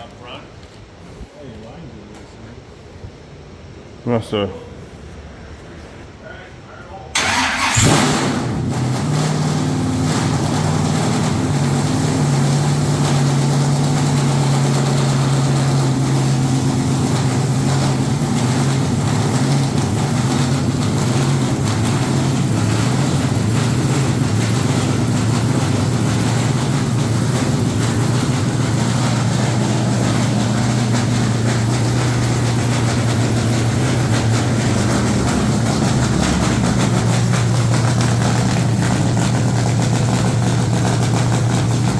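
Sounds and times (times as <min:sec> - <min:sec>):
truck engine idling: 0:07.2 - 0:41.9.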